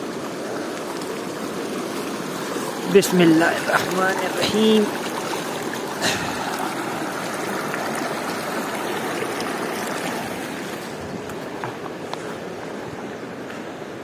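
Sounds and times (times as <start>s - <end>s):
river water rushing over stones: 0.0s - 14.0s.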